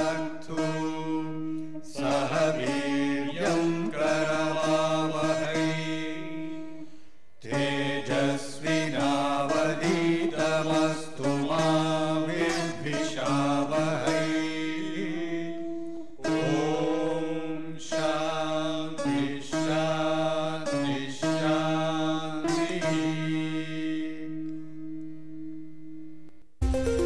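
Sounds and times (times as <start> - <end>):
chanted vocal melody: 0.0 - 26.0.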